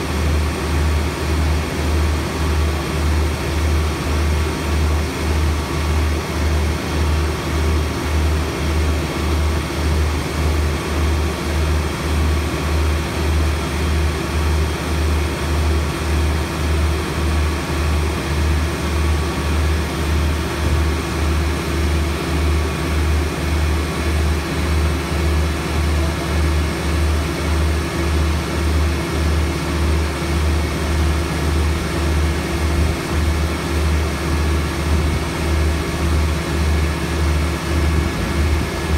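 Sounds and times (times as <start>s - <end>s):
heavy engine throbbing: 0.0s - 38.9s.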